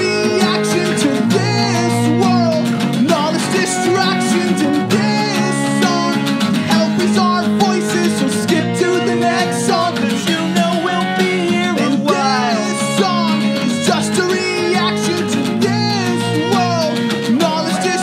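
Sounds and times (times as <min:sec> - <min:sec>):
acoustic guitar strummed: 0:00.0 - 0:18.0
bass guitar: 0:00.0 - 0:18.0
bowed violin melody: 0:00.0 - 0:18.0.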